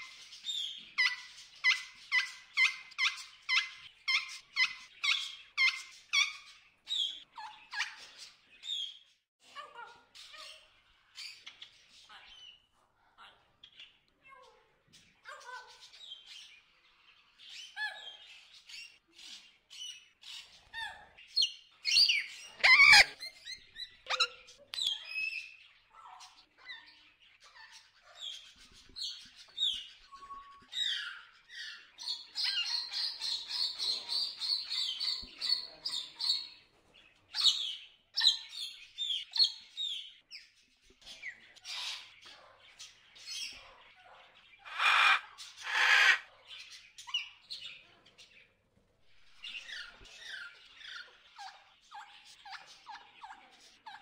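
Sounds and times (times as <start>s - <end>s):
macaws chirping and squawking: 0.0s - 9.0s, 14.9s - 36.6s, 37.4s - 48.4s, 49.3s - 54.0s.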